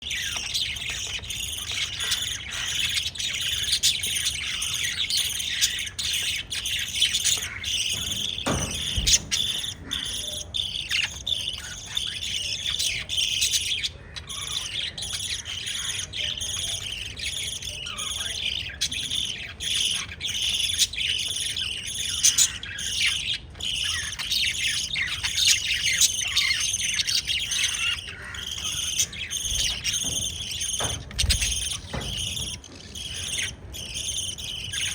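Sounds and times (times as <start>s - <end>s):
lovebirds chirping and chattering: 0.0s - 34.9s.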